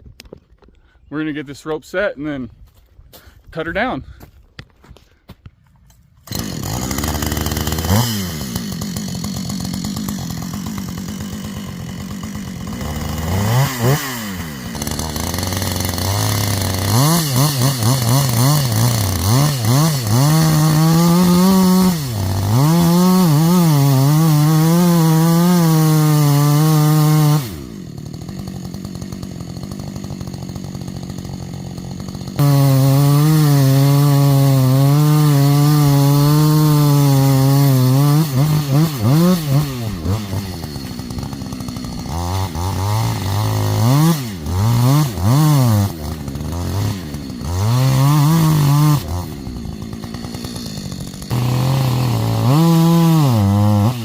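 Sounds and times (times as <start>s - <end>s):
chainsaw revving: 6.2s - 54.0s.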